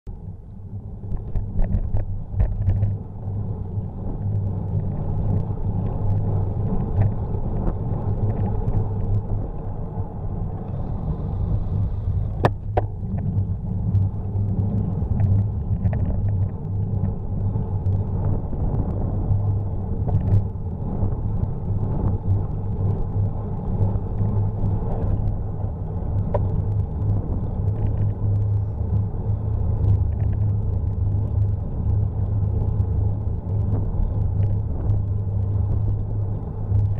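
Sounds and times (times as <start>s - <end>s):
wind and road rumble: 0.0s - 36.9s.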